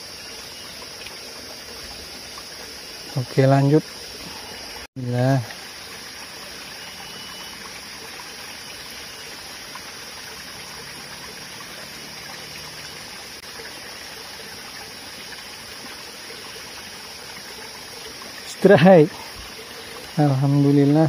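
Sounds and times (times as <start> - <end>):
stream trickling over rocks: 0.0 - 21.0.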